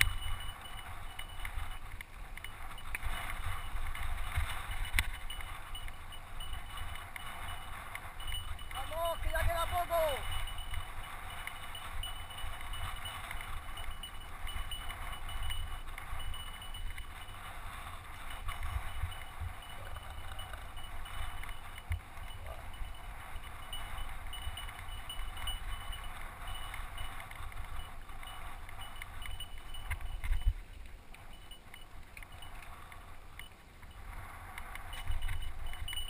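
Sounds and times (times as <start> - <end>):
bike rattling and clattering: 0.0 - 36.0.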